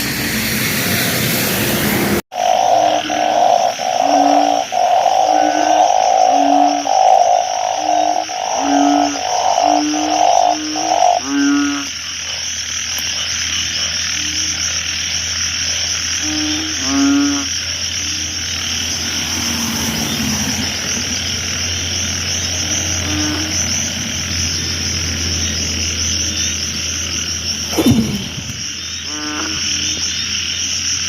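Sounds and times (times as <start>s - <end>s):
frogs calling low: 2.3s - 31.0s.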